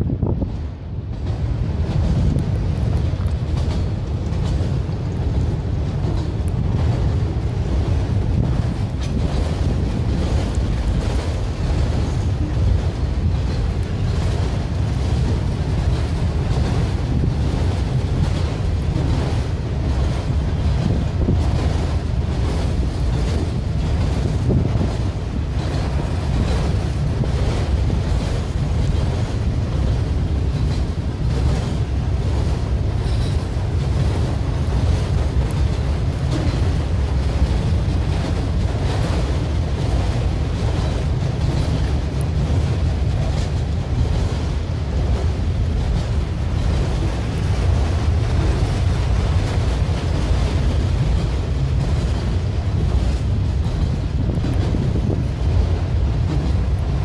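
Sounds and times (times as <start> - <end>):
freight train wheels rumbling: 0.0 - 57.0
wind buffeting microphone: 0.0 - 57.0.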